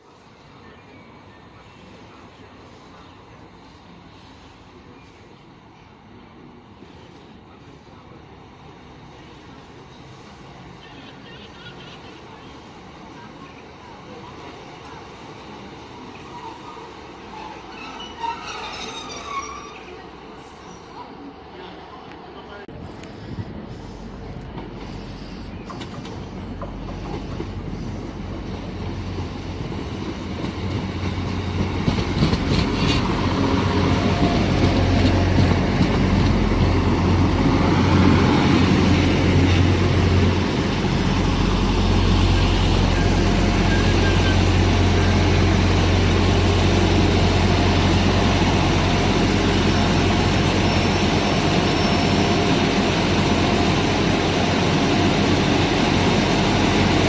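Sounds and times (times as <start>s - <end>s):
diesel train engine hum: 0.0s - 57.0s.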